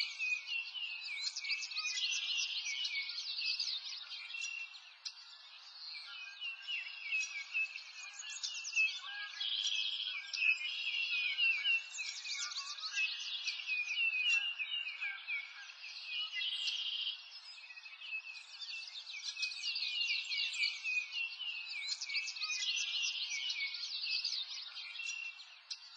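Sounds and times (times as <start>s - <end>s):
birds chirping chorus: 0.0s - 25.9s.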